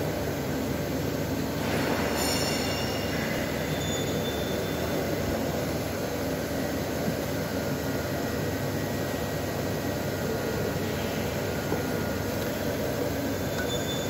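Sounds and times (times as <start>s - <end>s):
steady mechanical noise: 0.0s - 14.0s.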